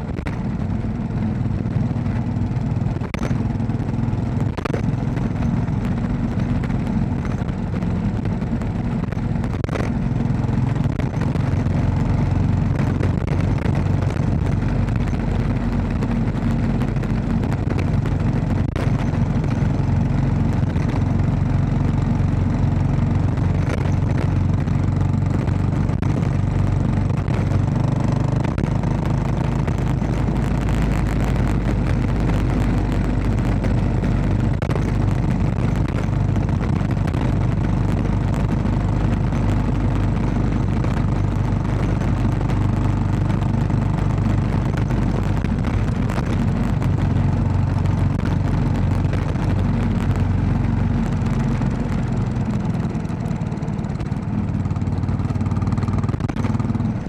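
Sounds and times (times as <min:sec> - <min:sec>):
motorcycle engine running: 0:00.0 - 0:57.0
tyre and road noise: 0:00.0 - 0:57.0.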